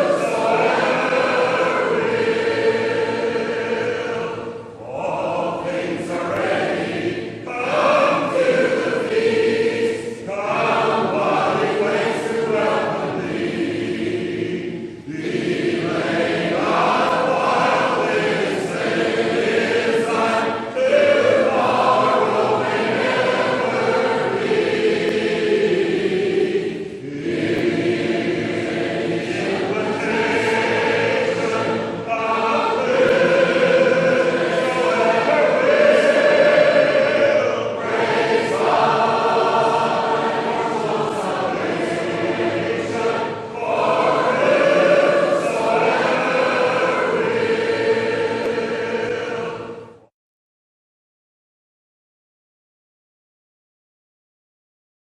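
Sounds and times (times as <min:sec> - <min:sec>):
congregation singing a hymn: 0:00.0 - 0:50.1.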